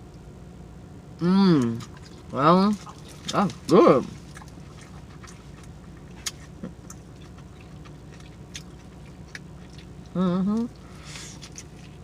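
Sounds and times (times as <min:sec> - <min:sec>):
low hum: 0:00.0 - 0:12.0
mouth chewing wet clicks: 0:01.6 - 0:12.0.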